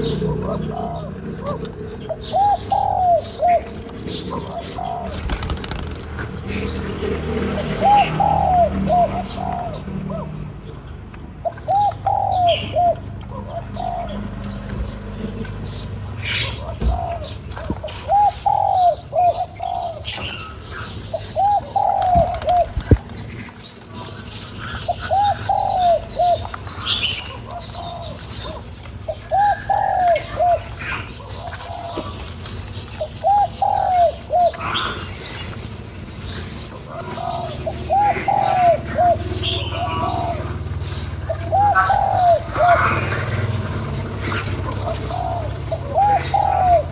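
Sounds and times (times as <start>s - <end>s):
dove cooing: 0.0s - 46.9s
small birds chirping faintly: 0.0s - 46.9s.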